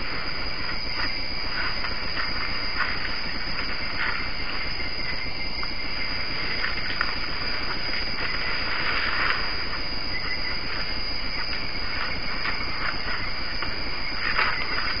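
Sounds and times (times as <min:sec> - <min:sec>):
night insect chorus: 0:00.0 - 0:15.0.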